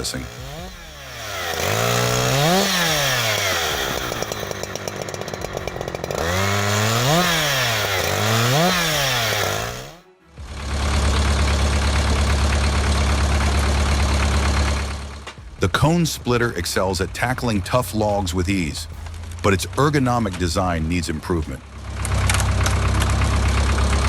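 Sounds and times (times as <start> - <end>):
chainsaw revving: 0.0 - 24.0
low machine drone: 0.0 - 24.0.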